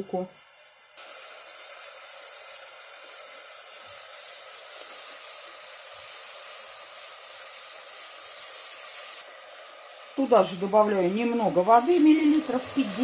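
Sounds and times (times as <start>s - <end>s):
onion frying softly in oil: 0.0s - 13.0s.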